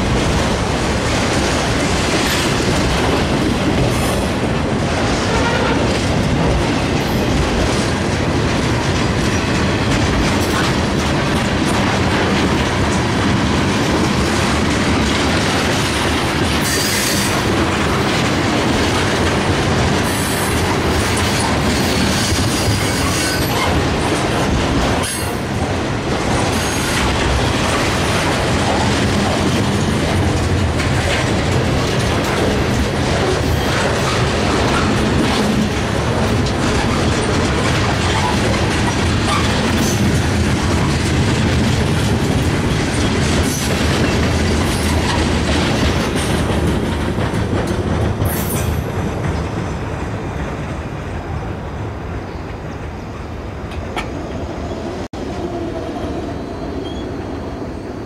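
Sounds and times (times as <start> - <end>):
wheels clicking over rail joints: 0.0 - 49.8
train wheels rumbling on rail: 0.0 - 58.0.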